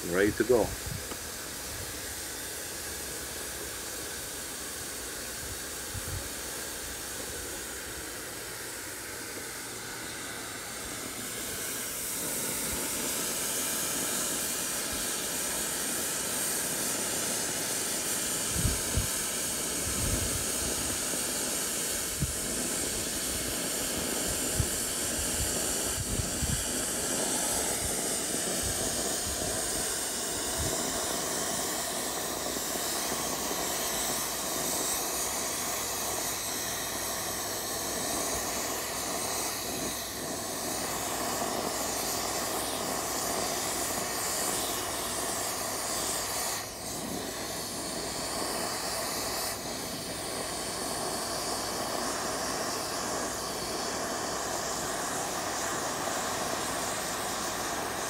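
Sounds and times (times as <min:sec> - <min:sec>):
plasma cutter hissing: 0:00.0 - 0:58.0.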